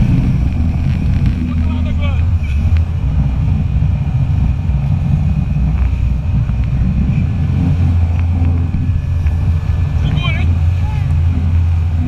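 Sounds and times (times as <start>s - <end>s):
jet ski engine droning: 0.0s - 12.0s
wind buffeting microphone: 0.0s - 12.0s.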